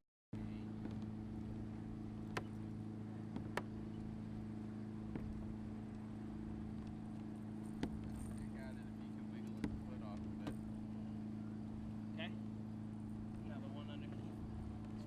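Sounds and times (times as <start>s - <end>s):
low motor hum: 0.4s - 15.0s.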